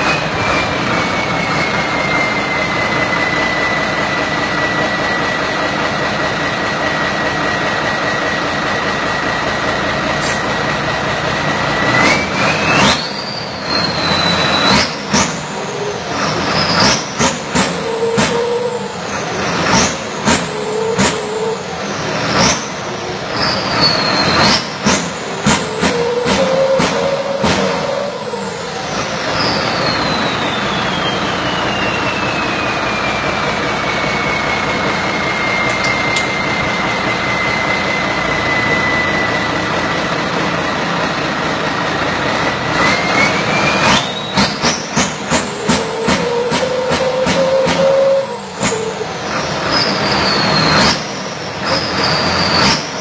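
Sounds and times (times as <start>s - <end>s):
harvester engine howling whine: 0.0s - 53.0s.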